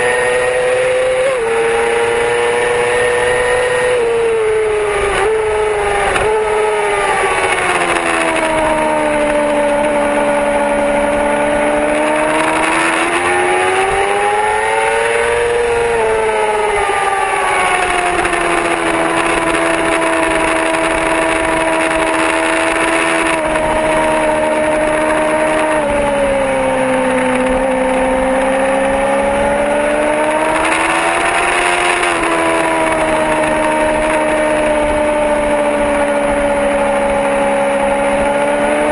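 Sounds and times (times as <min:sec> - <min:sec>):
motorcycle engine running at speed: 0:00.0 - 0:38.9.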